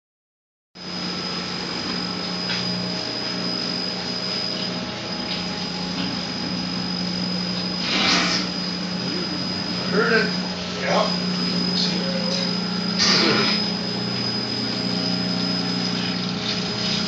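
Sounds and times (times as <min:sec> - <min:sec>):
bench grinder motor running: 0:01.0 - 0:17.0.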